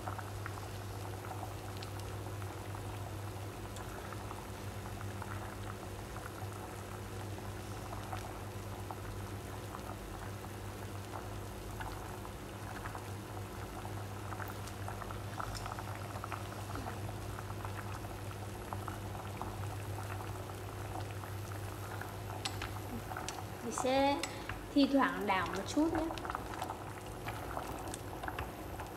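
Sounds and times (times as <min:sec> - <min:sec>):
steady low hum: 0:00.0 - 0:28.9
water boiling and bubbling: 0:00.0 - 0:28.9.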